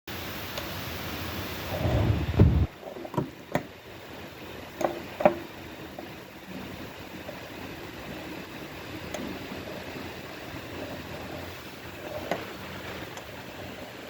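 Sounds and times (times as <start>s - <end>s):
steady low hiss: 0.1s - 14.0s
rumbling handling noise: 1.7s - 14.0s.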